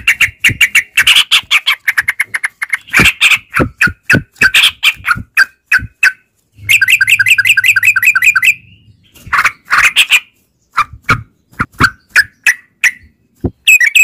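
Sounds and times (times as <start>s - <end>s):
bird chattering calls: 0.0s - 14.0s
bird trilling: 0.0s - 14.0s.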